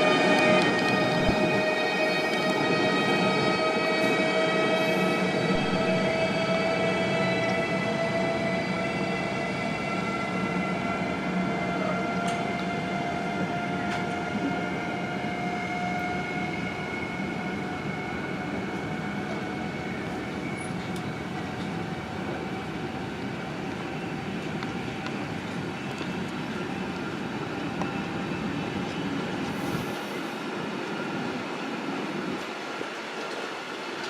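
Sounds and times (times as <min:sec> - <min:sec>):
electric train whine: 0:00.0 - 0:34.0
train rolling noise: 0:00.0 - 0:34.0.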